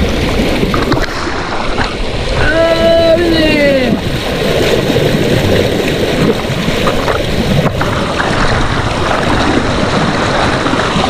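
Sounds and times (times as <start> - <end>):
creek water rushing and splashing: 0.0 - 11.0.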